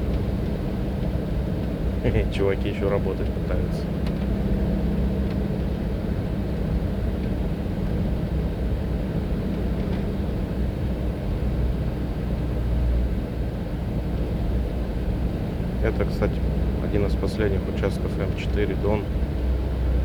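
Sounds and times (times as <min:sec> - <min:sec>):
car engine and tyre drone: 0:03.2 - 0:20.0.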